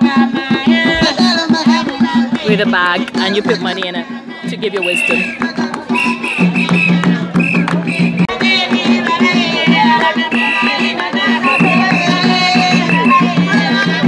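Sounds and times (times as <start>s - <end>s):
repeating drum beat: 0.0s - 14.0s
singing: 0.0s - 14.0s.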